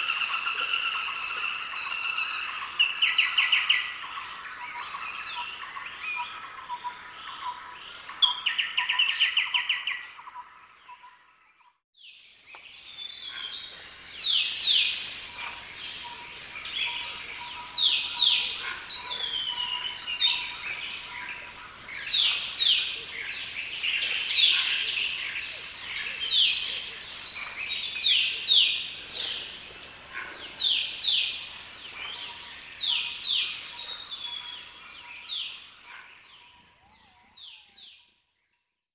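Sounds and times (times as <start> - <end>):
birds singing in chorus: 0.0 - 38.6.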